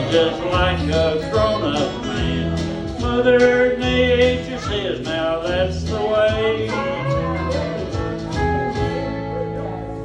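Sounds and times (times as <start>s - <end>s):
guitar accompaniment: 0.0s - 10.0s
person singing: 0.0s - 10.0s.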